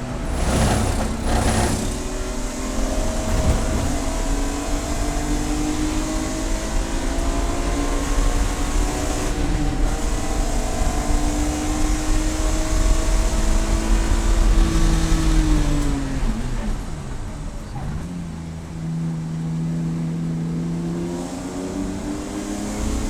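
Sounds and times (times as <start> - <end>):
race car engine accelerating: 0.0 - 23.0
road and wind noise: 0.0 - 23.0.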